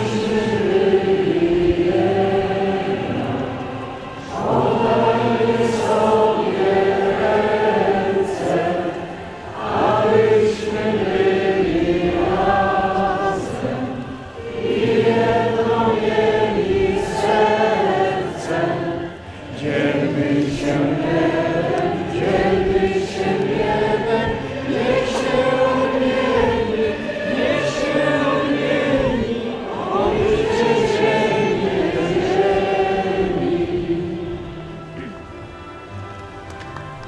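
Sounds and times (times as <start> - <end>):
choir singing a hymn: 0.0 - 35.9.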